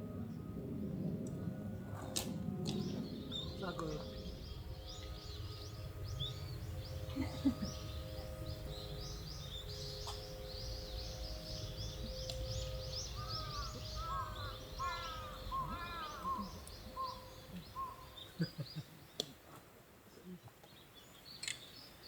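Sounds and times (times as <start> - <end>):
low rumble: 0.0 - 18.4
small birds chirping: 0.1 - 19.5, 20.1 - 22.0
falling bird calls: 1.4 - 19.3.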